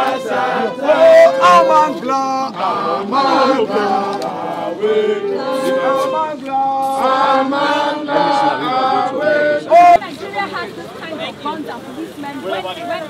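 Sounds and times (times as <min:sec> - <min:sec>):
group singing protest song: 0:00.0 - 0:10.9.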